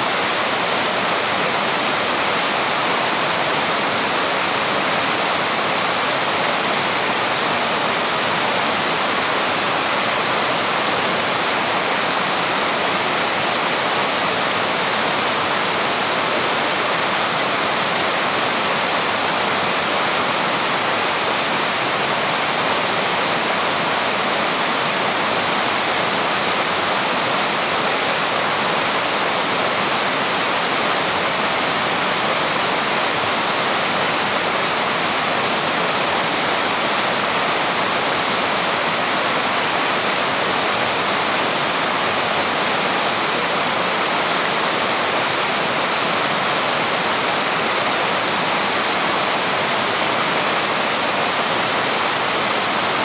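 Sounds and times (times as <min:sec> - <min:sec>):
small waterfall rushing: 0:00.0 - 0:53.0.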